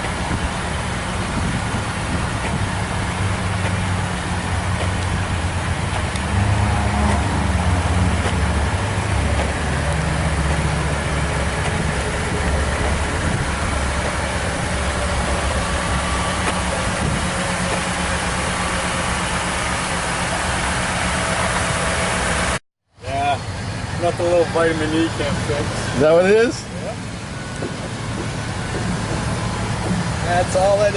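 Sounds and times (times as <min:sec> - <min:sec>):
pickup truck engine idling: 0:00.0 - 0:06.5, 0:07.2 - 0:30.9.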